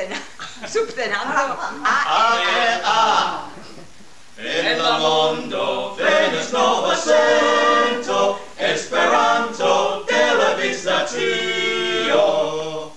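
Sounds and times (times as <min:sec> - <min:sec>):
group singing unaccompanied: 0:01.8 - 0:03.8, 0:04.4 - 0:12.9.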